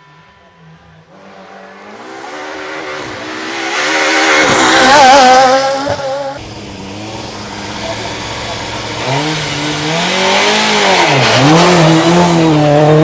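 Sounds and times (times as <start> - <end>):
rally car passing at speed: 0.2 - 13.0.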